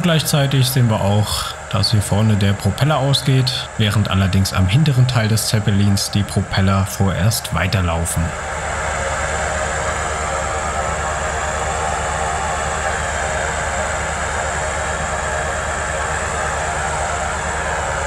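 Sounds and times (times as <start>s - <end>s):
propeller engines running: 0.0s - 18.0s.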